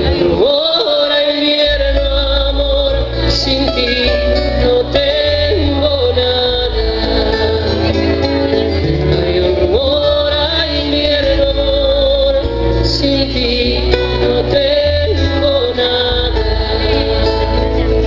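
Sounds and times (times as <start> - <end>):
live band playing a ballad: 0.0 - 18.0.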